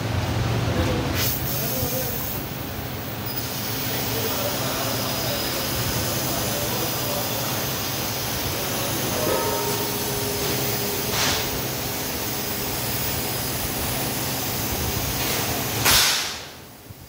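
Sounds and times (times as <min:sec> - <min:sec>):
laser cutter gas jet hissing: 0:01.1 - 0:17.0.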